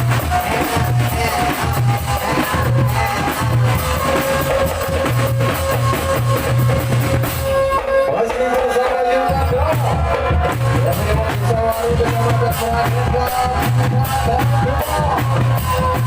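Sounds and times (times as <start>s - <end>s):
pulsing bass line: 0.0s - 8.2s, 9.3s - 16.0s
loud band music: 0.0s - 16.0s.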